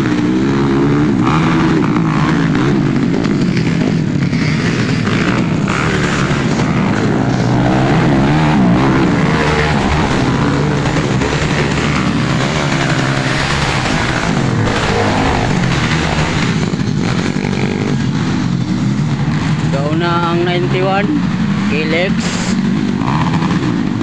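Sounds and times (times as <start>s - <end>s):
dirt bikes racing past: 0.0s - 24.0s.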